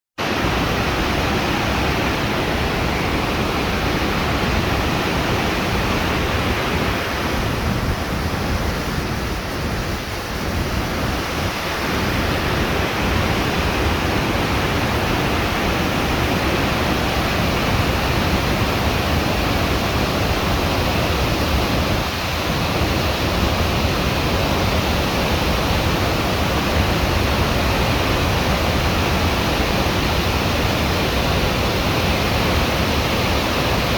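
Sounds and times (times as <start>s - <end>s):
wind blowing on microphone: 0.2s - 33.9s.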